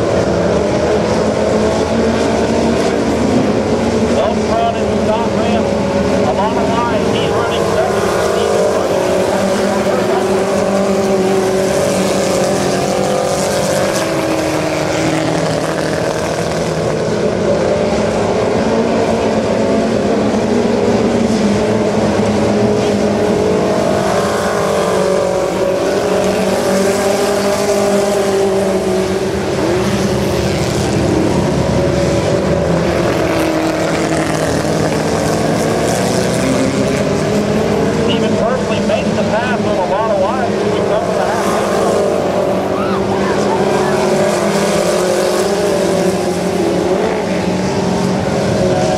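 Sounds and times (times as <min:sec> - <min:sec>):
race car engines: 0:00.0 - 0:48.9.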